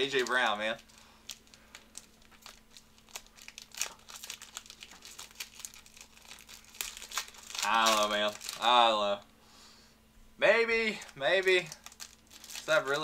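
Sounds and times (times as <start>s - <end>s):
foil wrapper crinkling and tearing: 0.0s - 9.0s, 10.9s - 13.0s.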